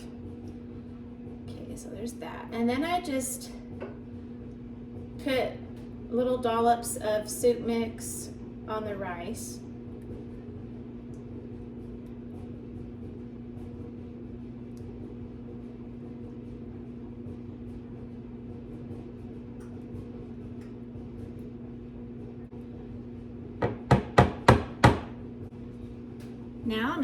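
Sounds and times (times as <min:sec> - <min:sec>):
clothes dryer humming: 0:00.0 - 0:27.0.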